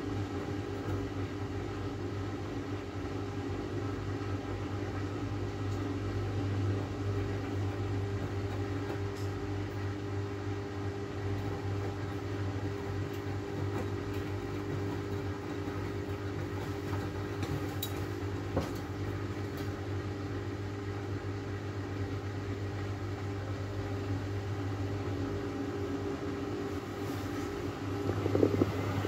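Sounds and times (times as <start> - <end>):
washing machine drain pump humming: 0.0 - 29.0.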